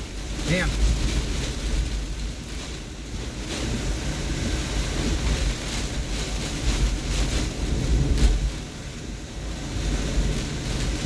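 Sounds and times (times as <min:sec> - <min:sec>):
gusting wind: 0:00.0 - 0:11.0
wind buffeting microphone: 0:00.0 - 0:11.0.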